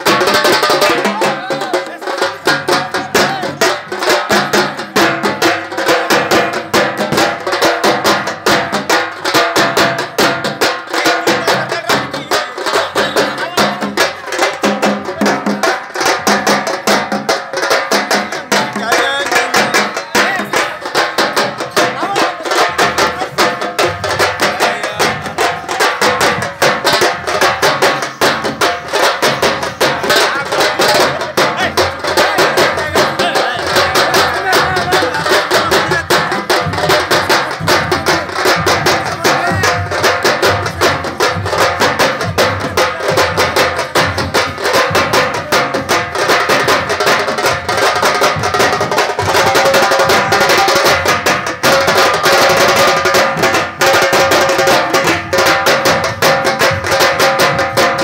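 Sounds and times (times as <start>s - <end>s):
band of drums beaten with sticks: 0.0s - 58.0s.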